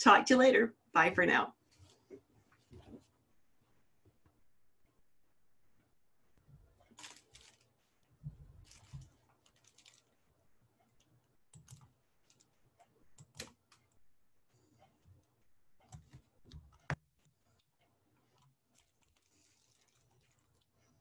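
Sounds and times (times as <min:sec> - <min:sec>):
faint clicks and soft knocks: 0:01.6 - 0:21.0.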